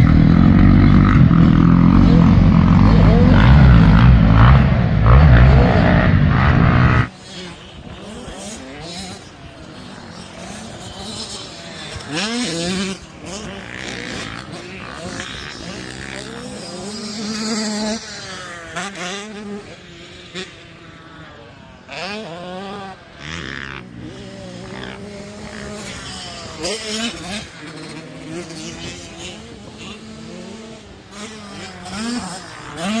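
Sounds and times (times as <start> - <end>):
motocross bikes revving: 0.0 - 33.0.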